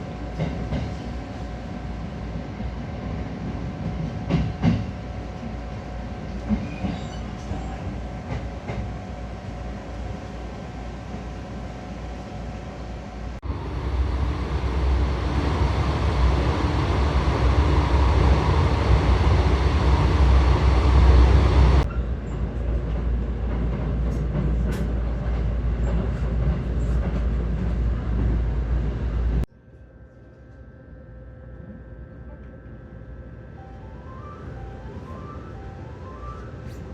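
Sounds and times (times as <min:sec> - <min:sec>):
train rumbling on rails: 0:00.0 - 0:29.5, 0:31.5 - 0:36.9.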